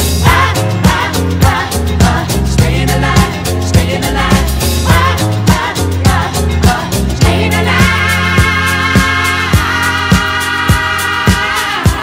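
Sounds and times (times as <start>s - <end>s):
instrumental music with drum beat: 0.0s - 12.0s.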